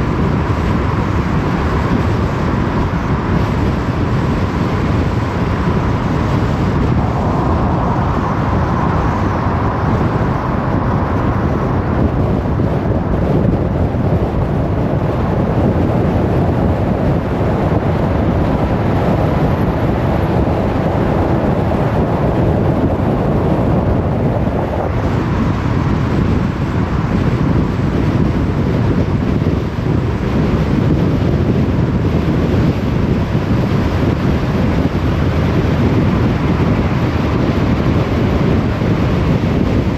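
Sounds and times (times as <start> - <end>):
car engine: 0.0 - 39.9
tyre and wind noise: 0.0 - 39.9.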